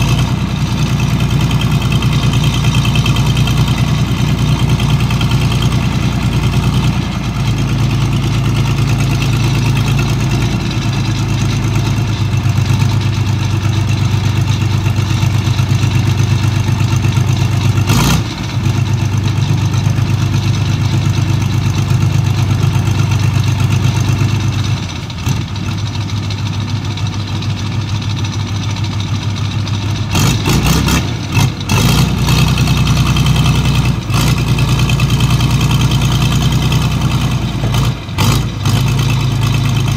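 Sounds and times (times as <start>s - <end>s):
low diesel engine drone: 0.0s - 39.9s.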